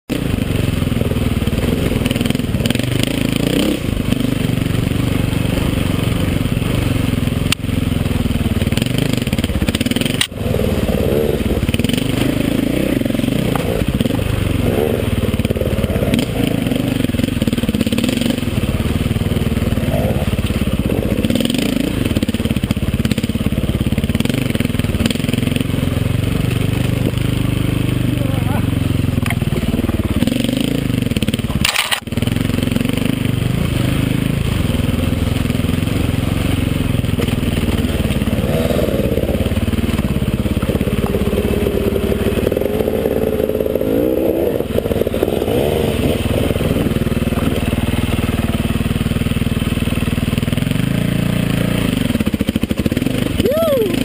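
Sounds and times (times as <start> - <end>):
dirt bike engine revving: 0.1 - 54.0
wind: 0.1 - 54.0
bike rattling over rough ground: 0.3 - 53.4.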